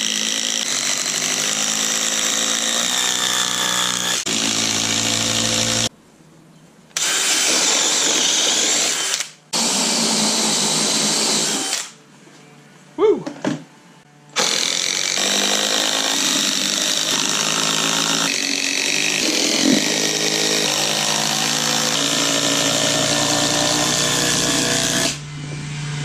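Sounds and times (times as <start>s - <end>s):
cordless drill boring into wood: 0.0s - 5.9s, 7.0s - 12.0s, 14.4s - 25.2s.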